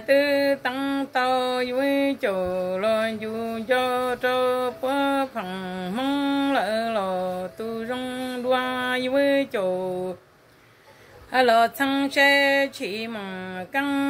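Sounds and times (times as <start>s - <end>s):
woman singing unaccompanied: 0.0s - 10.4s, 11.2s - 14.0s.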